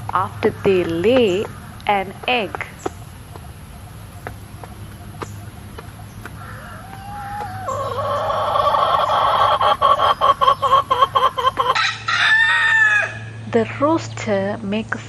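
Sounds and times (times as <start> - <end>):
hen clucking: 0.0 - 13.1.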